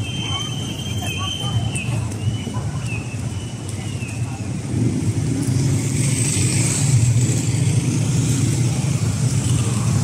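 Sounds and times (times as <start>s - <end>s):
vehicles passing: 0.0s - 10.0s.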